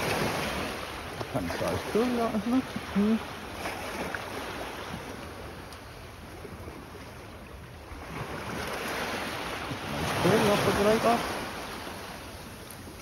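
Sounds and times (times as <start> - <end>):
sea surf rushing: 0.0 - 13.0.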